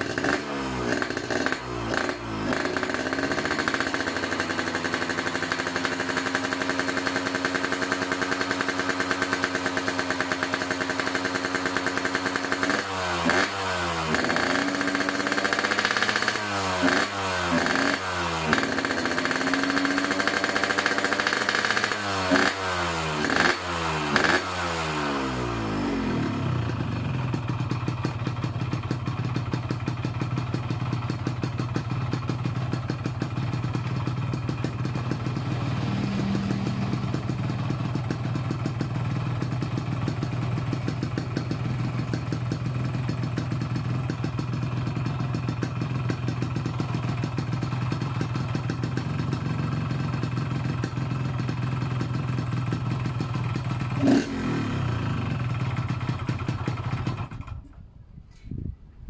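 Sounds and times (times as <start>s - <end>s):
two-stroke motorcycle idling: 0.0s - 57.8s.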